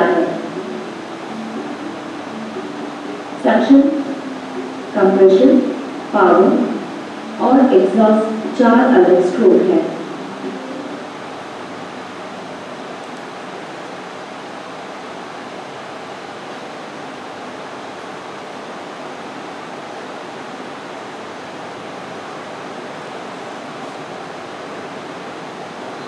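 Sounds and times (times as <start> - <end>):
room noise hiss: 0.0 - 26.0.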